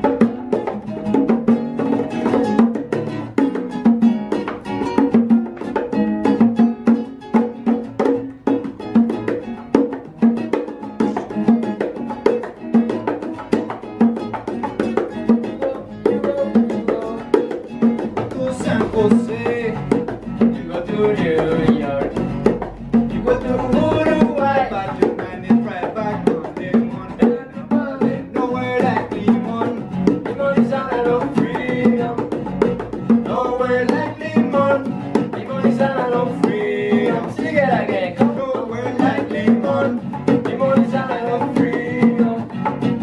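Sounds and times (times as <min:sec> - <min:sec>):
bongos: 0:00.0 - 0:43.0
classical guitar strummed and picked: 0:00.0 - 0:43.0.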